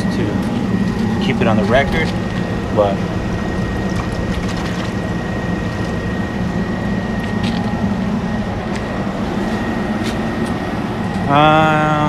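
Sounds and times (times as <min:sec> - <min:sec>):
high whine: 0:00.0 - 0:12.0
hvac equipment drone: 0:00.0 - 0:12.0.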